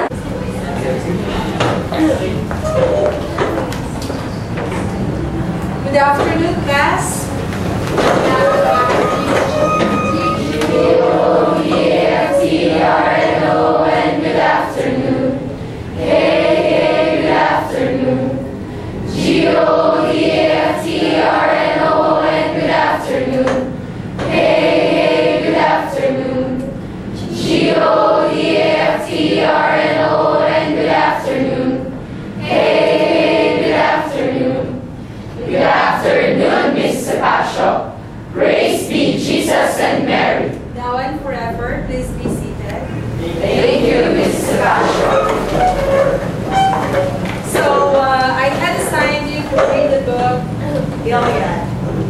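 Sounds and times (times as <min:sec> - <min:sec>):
students singing together: 0:07.4 - 0:40.7, 0:43.0 - 0:51.8.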